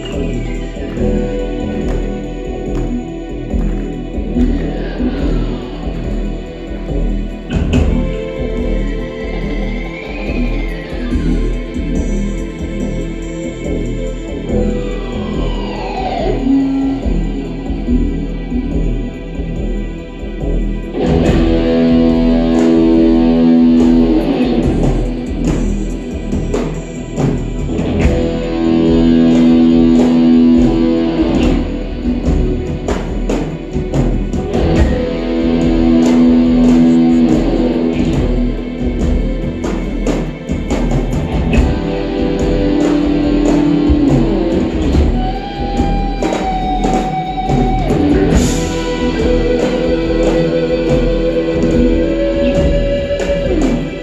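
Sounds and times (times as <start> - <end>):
guitar chords: 0.0 - 18.9, 20.4 - 54.0
drums: 0.0 - 54.0
rock band playing: 0.0 - 54.0.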